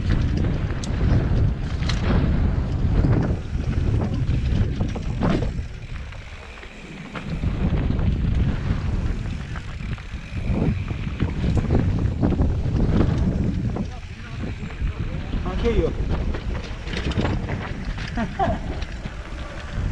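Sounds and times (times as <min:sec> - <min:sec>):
bike clicks and rattles: 0:00.0 - 0:19.9
tyres on loose gravel: 0:00.0 - 0:19.9
wind buffeting microphone: 0:00.0 - 0:19.9.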